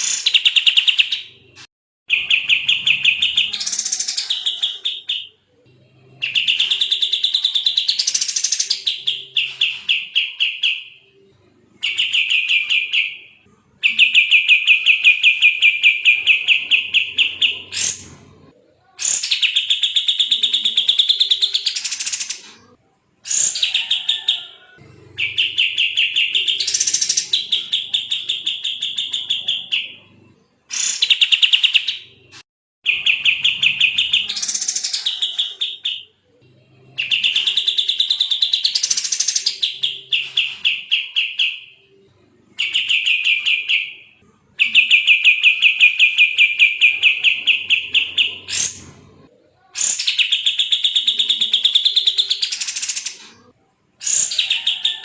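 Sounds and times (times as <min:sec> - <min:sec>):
bird singing fast repeated notes: 0:00.0 - 0:01.5, 0:02.1 - 0:05.5, 0:06.1 - 0:11.2, 0:11.8 - 0:18.1, 0:19.0 - 0:22.4, 0:25.2 - 0:30.1, 0:30.7 - 0:48.9, 0:49.7 - 0:53.2.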